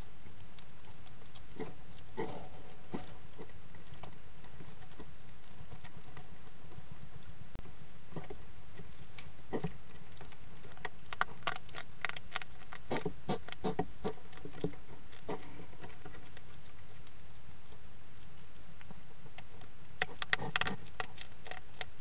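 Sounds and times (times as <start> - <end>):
hedgehog crunching dry food: 0.0 - 22.0
recording hiss: 0.0 - 22.0.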